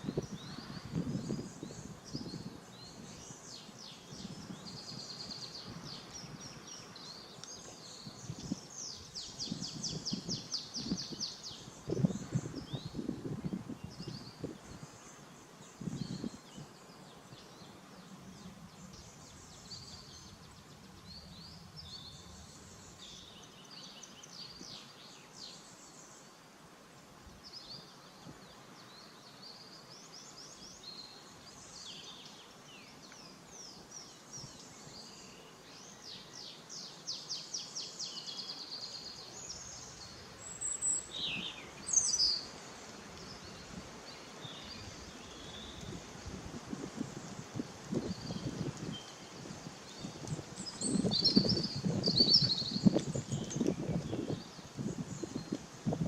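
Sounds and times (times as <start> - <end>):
small birds chirping: 0.0 - 26.5, 27.4 - 56.0
faint steady hiss: 0.0 - 56.0.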